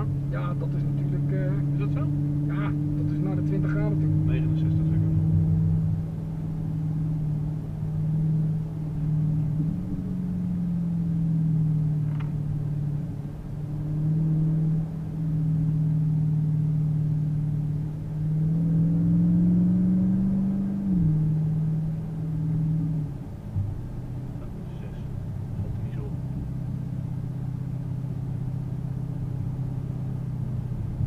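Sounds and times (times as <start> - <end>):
car engine humming: 0.0 - 31.0
road rumble: 0.0 - 31.0.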